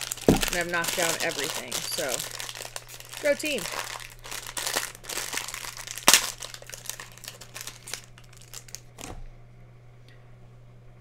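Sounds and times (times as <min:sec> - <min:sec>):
sharp loud packaging crackle: 0:00.0 - 0:08.9
plastic packaging crinkling and tearing: 0:00.0 - 0:09.2.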